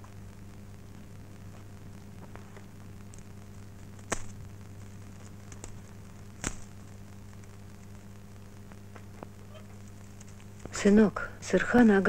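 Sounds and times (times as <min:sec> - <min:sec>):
short crackle: 0:00.0 - 0:11.0
film soundtrack hum and hiss: 0:00.0 - 0:12.0
faint clicks: 0:00.9 - 0:10.8.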